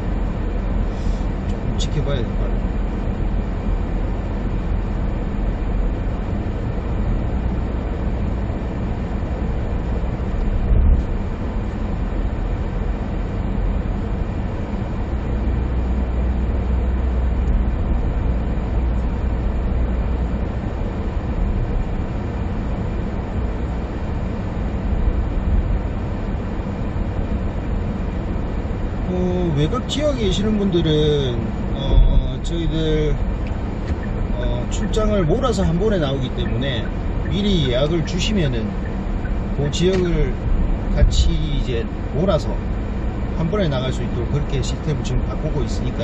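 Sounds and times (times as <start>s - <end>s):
road and engine noise in cabin: 0.0s - 46.0s.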